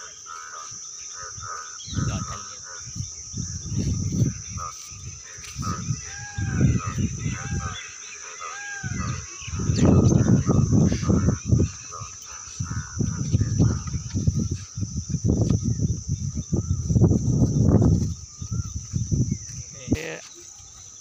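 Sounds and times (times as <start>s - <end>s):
birds chirping: 0.0s - 21.0s
high insect drone: 0.0s - 21.0s.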